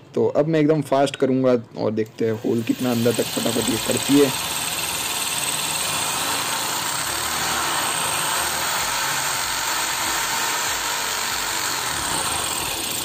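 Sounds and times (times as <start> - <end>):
impact drill boring into wall: 2.4 - 13.0.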